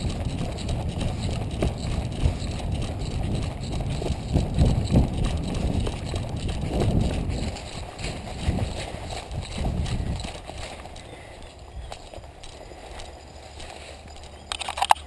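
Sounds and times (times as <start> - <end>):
camera jostling rumble: 0.0 - 15.0
running footsteps on dirt: 0.0 - 15.0.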